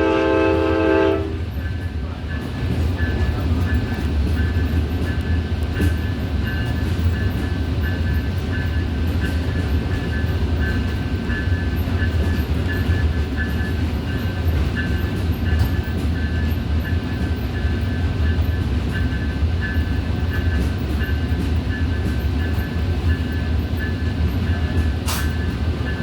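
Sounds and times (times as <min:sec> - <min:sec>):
moving train rumble: 0:00.0 - 0:26.0.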